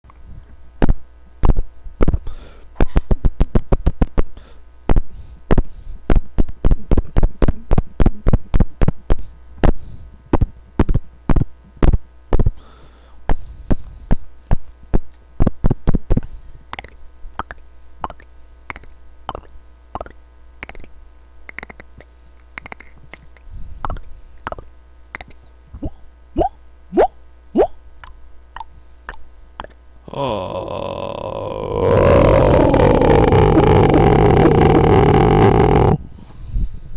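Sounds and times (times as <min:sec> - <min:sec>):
mouth clicks and pops: 0:00.8 - 0:12.6, 0:14.1 - 0:36.0.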